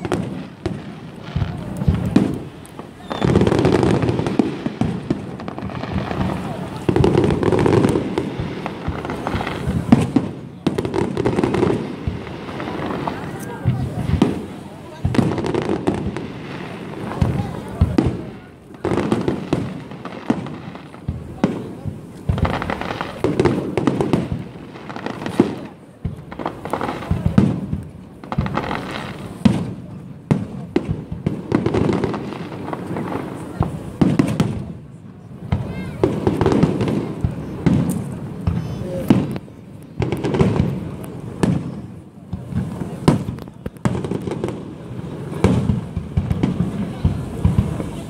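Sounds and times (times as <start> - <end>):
fireworks crackling: 0.0 - 48.0.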